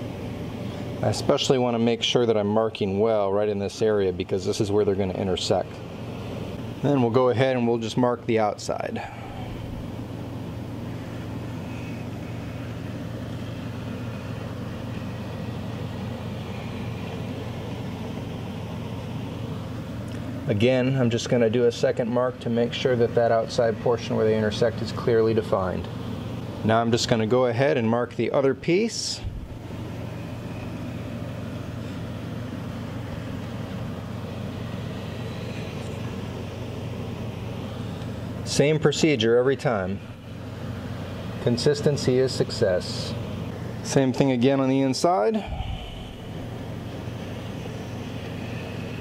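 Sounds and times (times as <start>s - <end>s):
ventilation unit humming: 0.0s - 49.0s.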